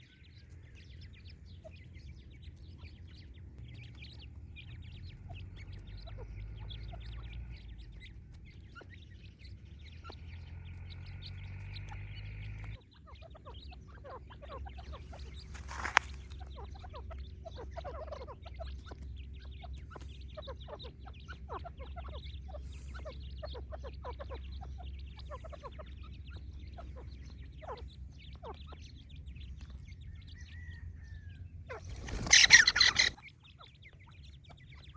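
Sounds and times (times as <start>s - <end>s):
partridges peeping and chirping: 0.0s - 34.9s.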